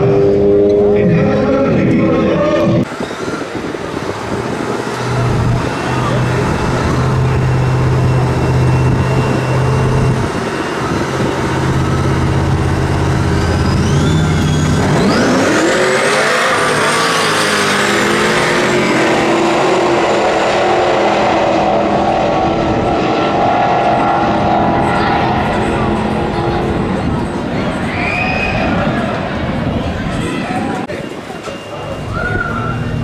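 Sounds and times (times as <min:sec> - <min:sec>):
suv engines revving: 0:00.0 - 0:31.2
high rising engine whine: 0:00.0 - 0:33.0.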